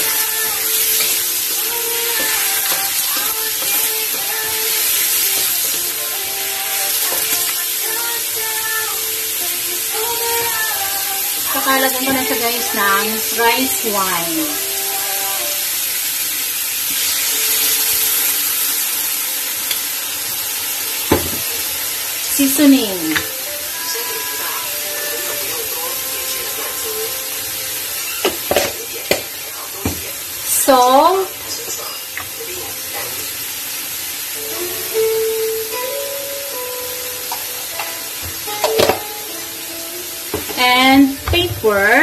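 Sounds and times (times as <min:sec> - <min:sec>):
chicken sizzling in a wok: 0:00.0 - 0:42.0.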